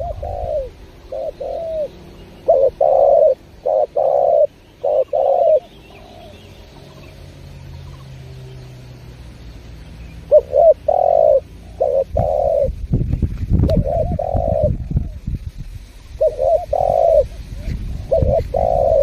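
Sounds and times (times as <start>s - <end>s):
dove cooing: 0.0s - 8.1s, 10.2s - 12.9s, 13.6s - 15.2s, 15.9s - 19.0s
loud low rumbling noise: 0.0s - 19.0s.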